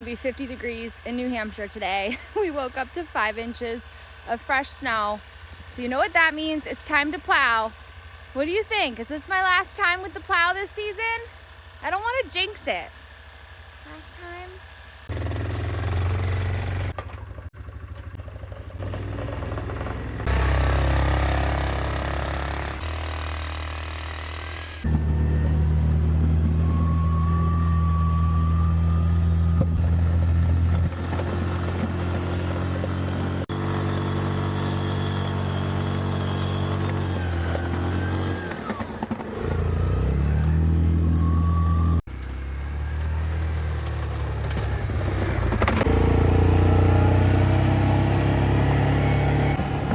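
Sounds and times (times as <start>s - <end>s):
atv engine pushing snow plow: 0.0s - 49.9s.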